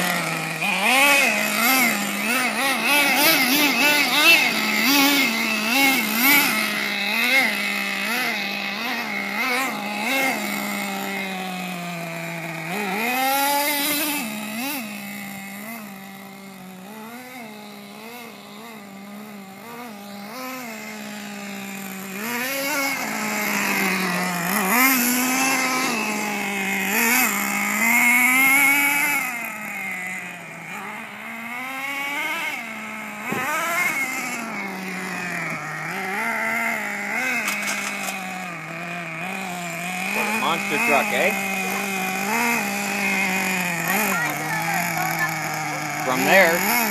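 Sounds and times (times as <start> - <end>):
small nitro engine revving: 0.0 - 46.9.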